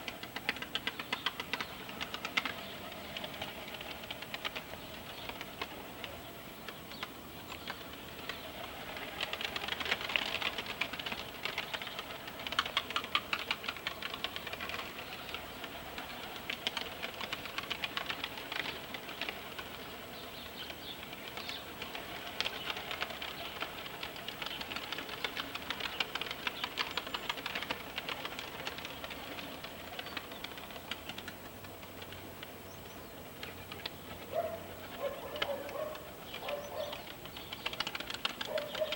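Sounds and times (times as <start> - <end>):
pigeon wings clattering: 0.0 - 32.6, 33.4 - 38.9.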